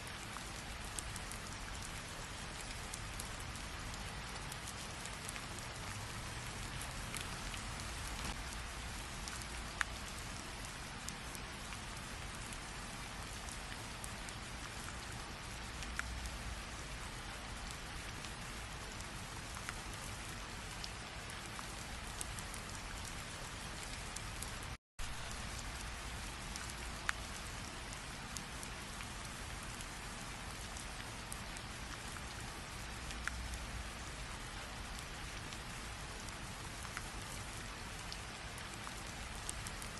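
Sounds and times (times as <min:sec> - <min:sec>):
steady rain hiss: 0:00.0 - 0:39.9
raindrops ticking: 0:00.1 - 0:39.9.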